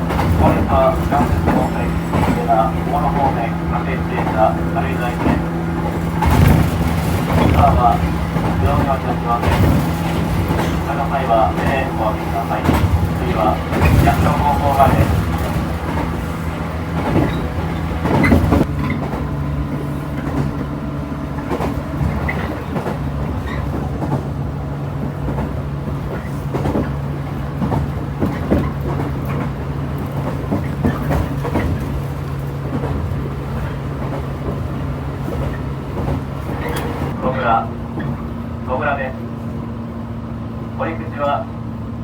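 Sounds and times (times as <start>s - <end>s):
wheels clicking on rails: 0.0s - 39.6s
train hum inside carriage: 0.0s - 42.0s.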